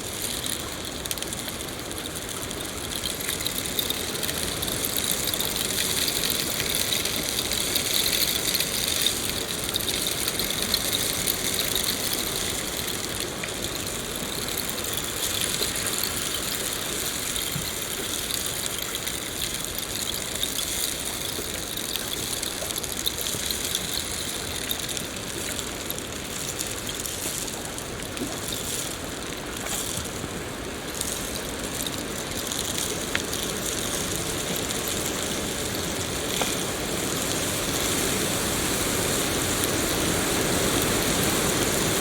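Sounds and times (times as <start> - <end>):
raindrop ticks: 0.0 - 42.0
steady rain hiss: 0.0 - 42.0.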